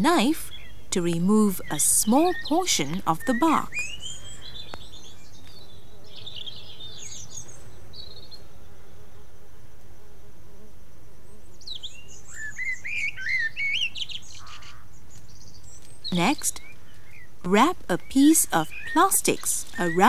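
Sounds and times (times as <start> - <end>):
birds chirping: 0.0 - 20.0
faint steady hum: 0.0 - 20.0
bird whistling song: 0.2 - 8.4, 11.6 - 20.0.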